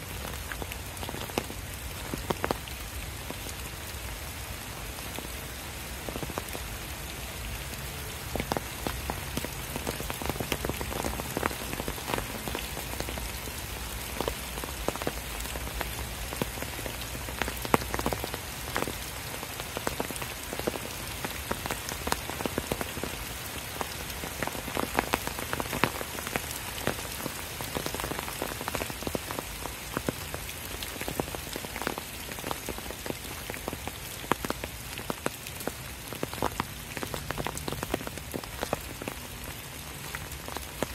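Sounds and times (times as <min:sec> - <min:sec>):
rain on leaves: 0:00.0 - 0:40.9
raindrops ticking: 0:00.0 - 0:40.9.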